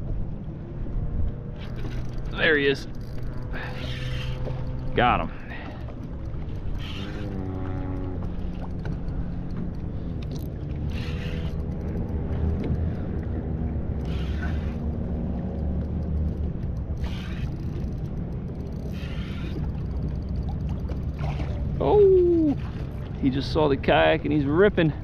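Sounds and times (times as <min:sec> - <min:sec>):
fishing reel gears whirring: 0:01.4 - 0:24.9.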